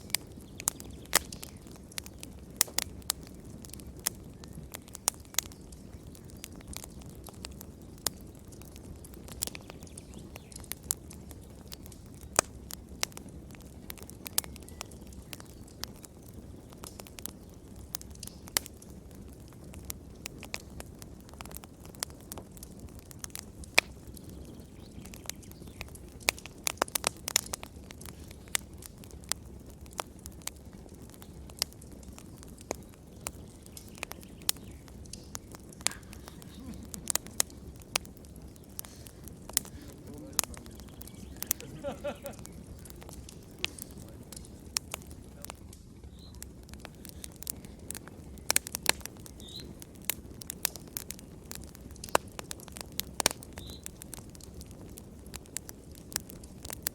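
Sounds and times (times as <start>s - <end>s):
fire crackling and popping: 0.0s - 56.9s
low steady rumble of fire: 0.0s - 56.9s.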